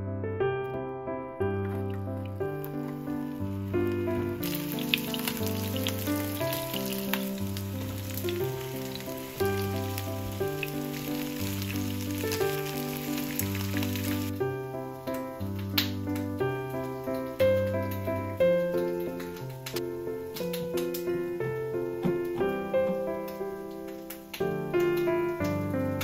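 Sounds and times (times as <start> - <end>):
background music: 0.0 - 26.0
vegetables sizzling in oil: 1.7 - 26.0.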